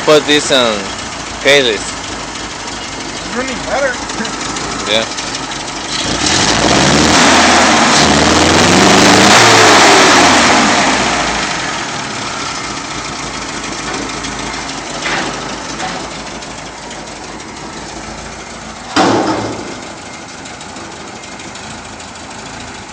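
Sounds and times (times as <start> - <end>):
car engine revving and idling: 0.0 - 22.9.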